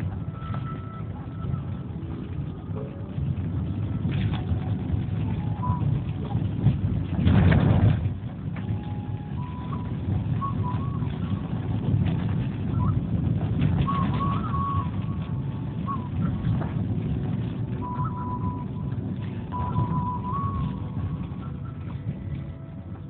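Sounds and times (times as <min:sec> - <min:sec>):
car engine and tyres rumbling: 0:00.0 - 0:23.0
windscreen wiper sweeping: 0:00.0 - 0:23.0.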